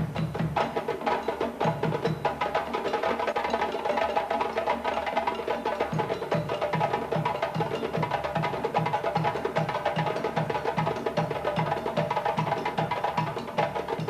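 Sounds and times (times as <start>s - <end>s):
drums and wood percussion: 0.0s - 14.0s.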